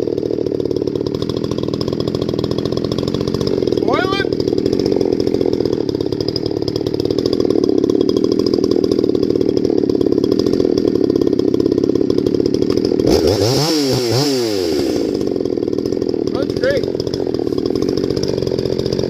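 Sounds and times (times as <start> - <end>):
chainsaw idling: 0.0 - 19.0
chainsaw throttle revving: 0.0 - 19.0.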